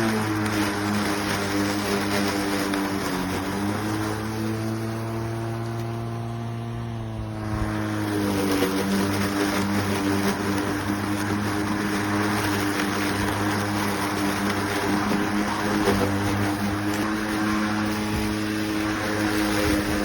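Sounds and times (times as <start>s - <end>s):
electric lawn mower humming: 0.0s - 20.0s.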